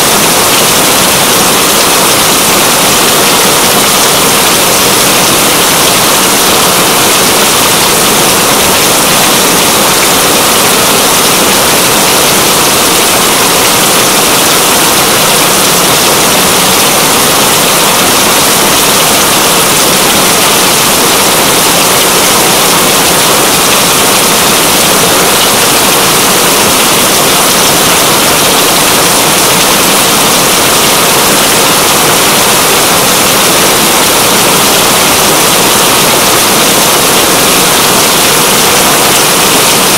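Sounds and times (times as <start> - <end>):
heavy steady rain: 0.0 - 39.9.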